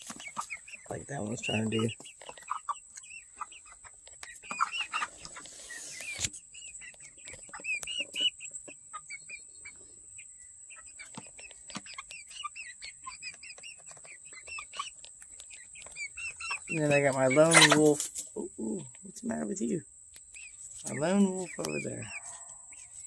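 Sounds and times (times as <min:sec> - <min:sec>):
hens peeping and clucking: 0:00.0 - 0:23.0
rustle: 0:01.4 - 0:09.2, 0:10.9 - 0:23.0.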